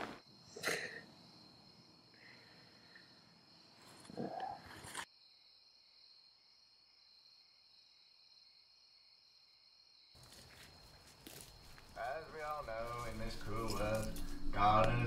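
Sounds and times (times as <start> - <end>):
crickets chirring: 0.1 - 15.0.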